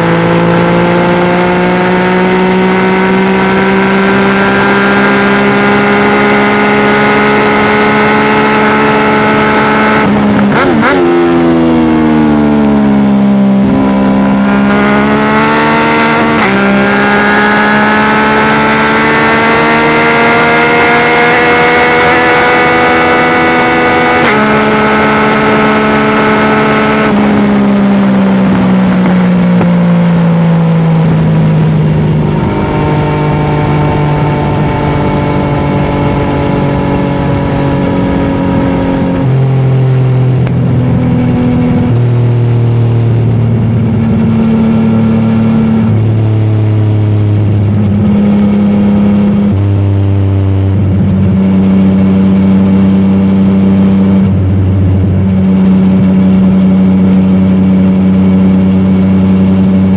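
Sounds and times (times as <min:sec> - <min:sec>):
motorcycle engine running loud: 0:00.0 - 0:59.9.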